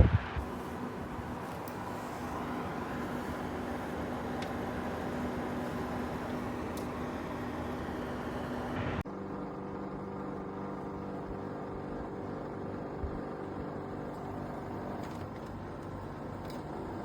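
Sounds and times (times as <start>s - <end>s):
dehumidifier humming: 0.0s - 17.0s.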